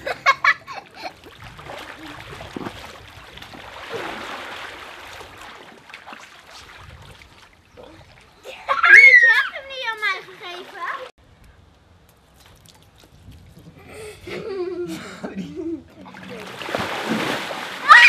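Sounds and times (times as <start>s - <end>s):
water sloshing and splashing: 0.0s - 11.1s, 12.2s - 13.8s, 16.0s - 18.0s.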